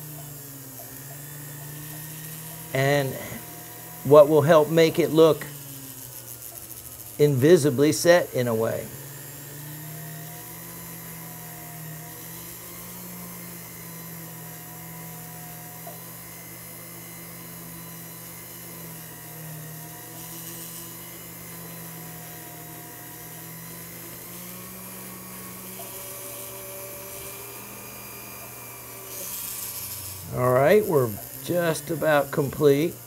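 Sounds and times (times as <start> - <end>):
rotary handpiece motor whine: 0.0 - 33.0.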